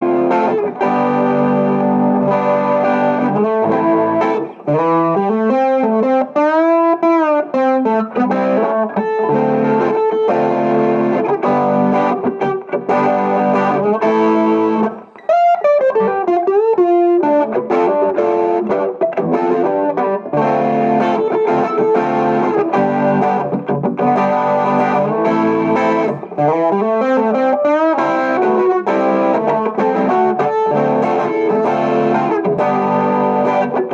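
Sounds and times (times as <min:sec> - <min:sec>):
distorted electric guitar: 0:00.0 - 0:33.9.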